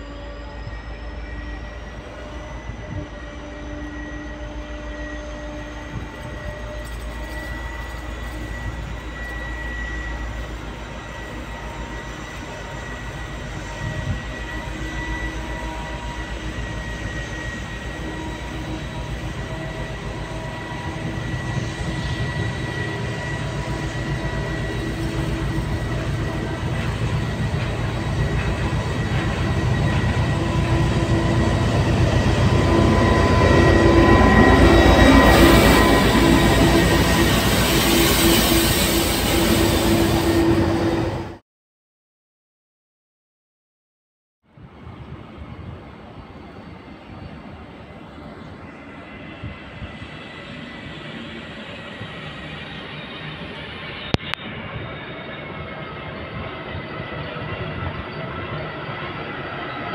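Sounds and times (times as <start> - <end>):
diesel locomotive engine rumble: 0.0 - 41.4, 44.5 - 59.9.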